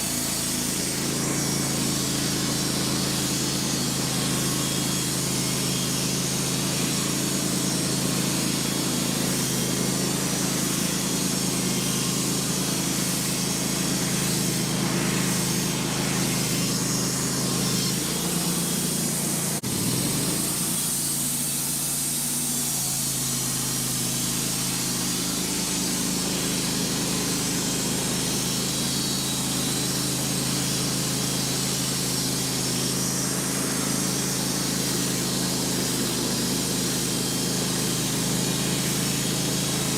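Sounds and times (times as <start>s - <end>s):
band sawmill cutting a log: 0.0s - 39.9s.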